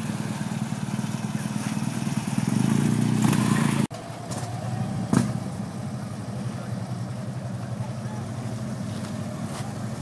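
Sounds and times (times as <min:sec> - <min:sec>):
motorcycle engines rumbling: 0:00.0 - 0:10.0.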